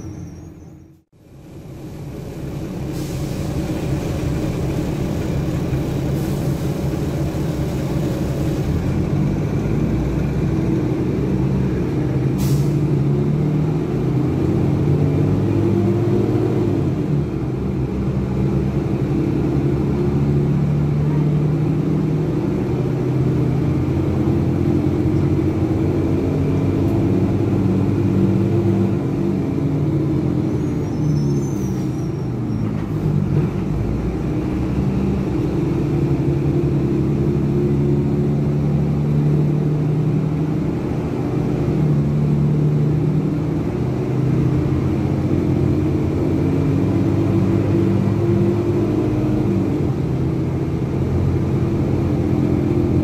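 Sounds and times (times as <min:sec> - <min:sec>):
bus diesel engine: 0:00.0 - 0:53.0.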